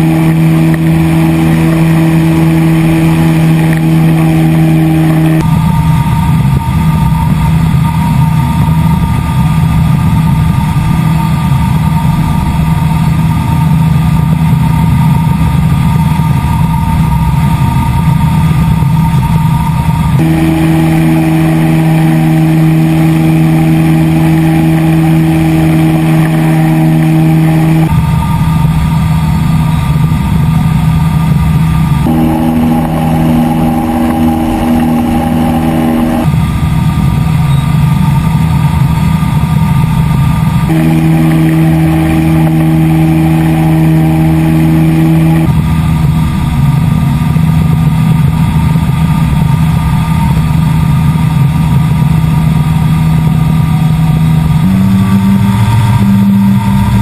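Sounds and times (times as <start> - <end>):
ultralight aircraft engine drone: 0.0 - 57.0.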